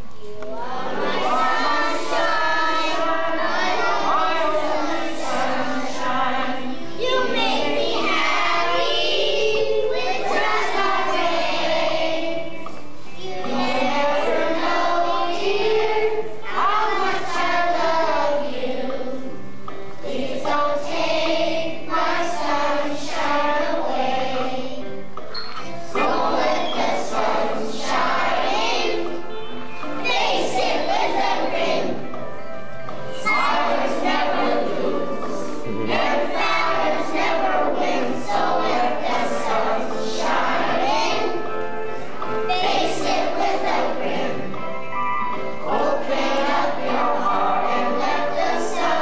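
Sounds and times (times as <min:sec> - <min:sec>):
children singing together: 0:00.0 - 0:49.0.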